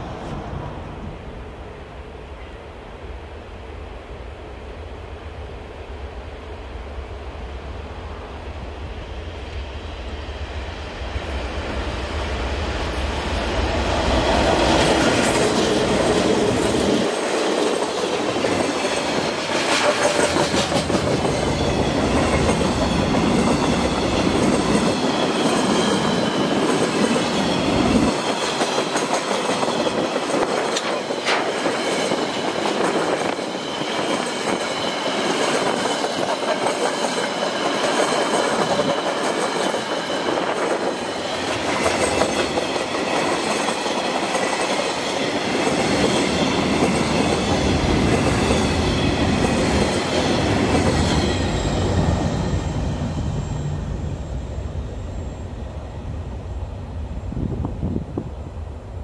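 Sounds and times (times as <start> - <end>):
train wagons rumbling on rails: 7.0 - 59.0.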